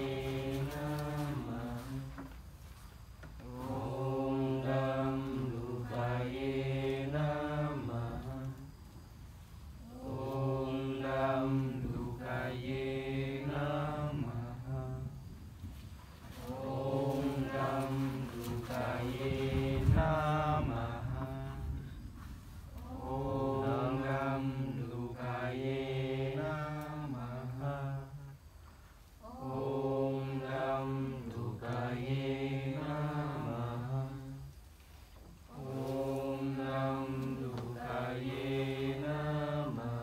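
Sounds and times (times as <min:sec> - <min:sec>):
person chanting sustained phrases: 0:00.0 - 0:02.3, 0:03.4 - 0:08.8, 0:09.8 - 0:15.4, 0:16.4 - 0:22.1, 0:22.8 - 0:28.6, 0:29.2 - 0:34.6, 0:35.5 - 0:40.0.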